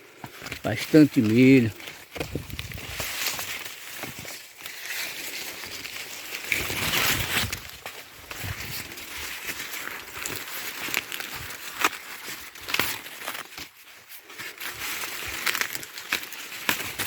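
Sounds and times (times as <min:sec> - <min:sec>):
dry corn leaves rustling: 0:00.0 - 0:17.0
sharp cracks of corn stalks: 0:00.2 - 0:17.0.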